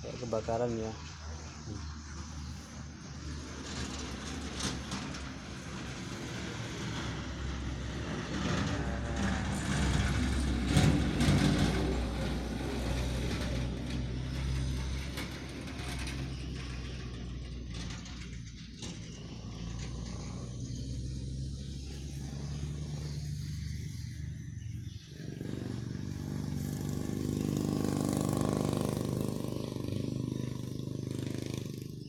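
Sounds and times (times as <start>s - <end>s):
vehicle driving past: 0.0s - 32.0s.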